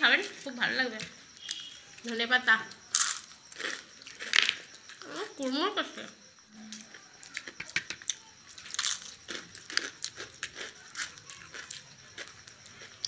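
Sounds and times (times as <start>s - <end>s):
crunchy fritters being chewed: 0.2s - 5.6s, 6.2s - 13.0s.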